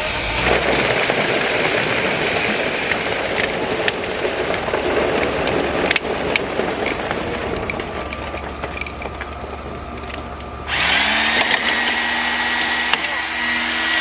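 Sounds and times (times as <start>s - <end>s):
construction machinery running: 0.0s - 14.0s.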